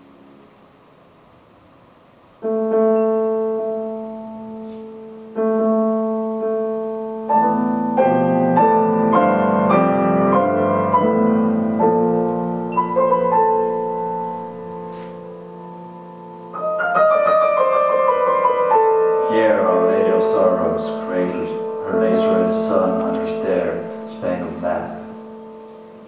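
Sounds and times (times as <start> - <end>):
grand piano chords: 0.0 - 26.0.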